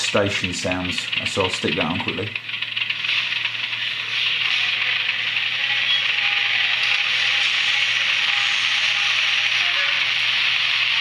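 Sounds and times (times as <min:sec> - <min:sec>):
hissy station ambience from speaker: 0:00.0 - 0:11.0
low hum: 0:00.0 - 0:11.0.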